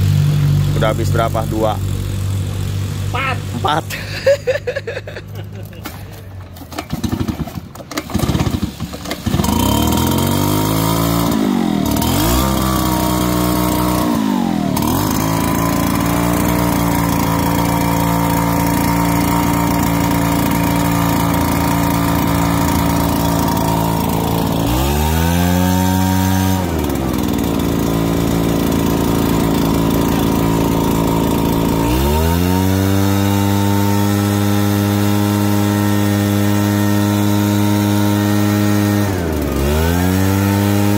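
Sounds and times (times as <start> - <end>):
leaf blower engine revving: 0.0 - 40.9
pull starter cord: 5.7 - 40.9.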